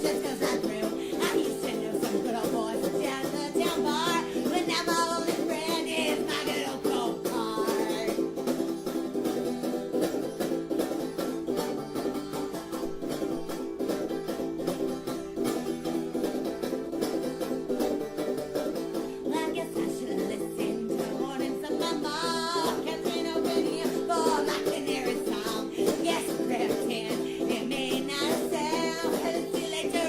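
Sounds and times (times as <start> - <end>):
fast plucked banjo-like music: 0.0 - 30.0.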